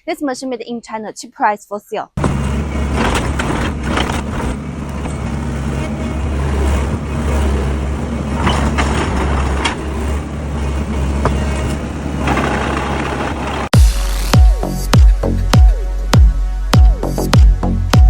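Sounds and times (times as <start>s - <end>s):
diesel engine running: 2.2s - 18.0s.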